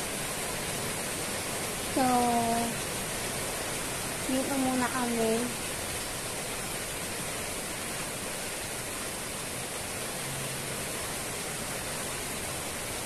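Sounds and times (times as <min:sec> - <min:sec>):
heavy rain heard from indoors: 0:00.0 - 0:13.0.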